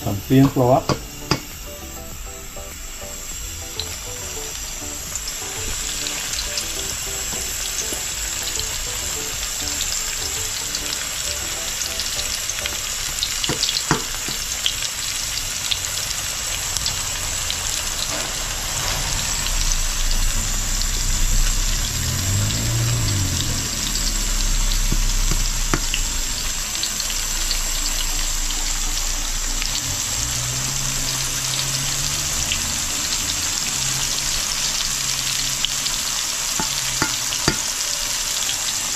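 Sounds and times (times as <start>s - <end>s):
fish frying in hot oil: 0.0s - 38.9s.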